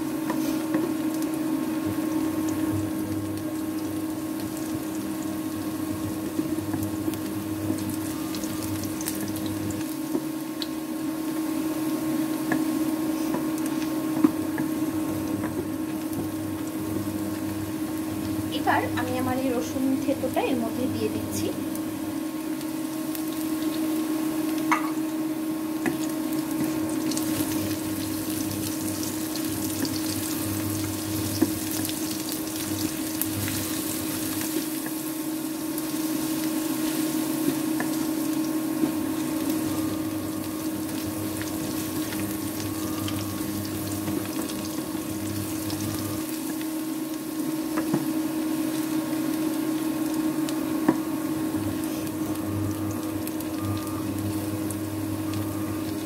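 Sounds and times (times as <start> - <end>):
onions sizzling in oil: 0.0 - 56.0
steady hum: 0.0 - 56.0.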